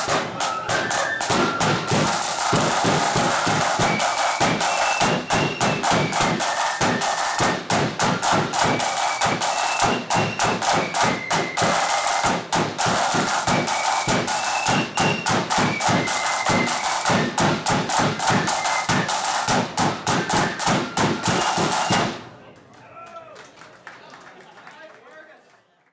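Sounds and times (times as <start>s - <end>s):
high flute melody: 0.0s - 22.2s
marching snare drums: 0.0s - 22.3s.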